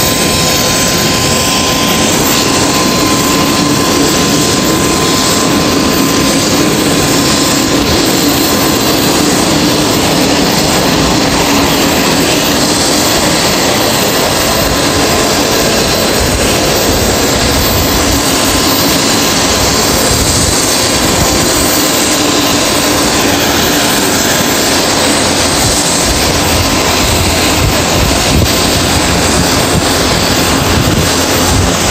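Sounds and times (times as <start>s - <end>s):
turbine aircraft engines idling: 0.0s - 31.9s.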